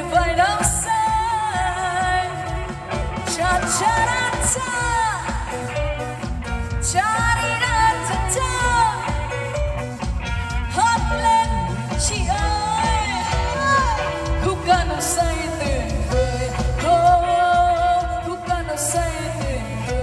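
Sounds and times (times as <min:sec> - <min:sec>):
live band playing pop song: 0:00.0 - 0:20.0.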